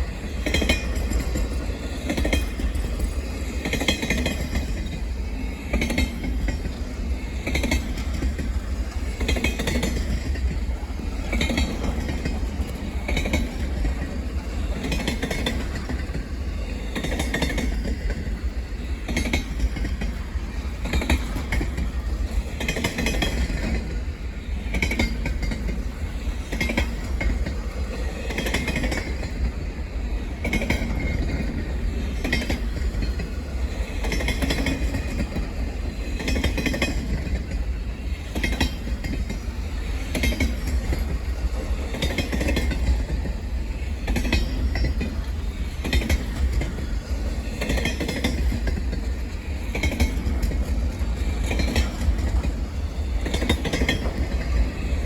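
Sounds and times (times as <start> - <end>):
train low rumble: 0.0 - 55.0
train wheels clicking on rails: 0.0 - 55.0.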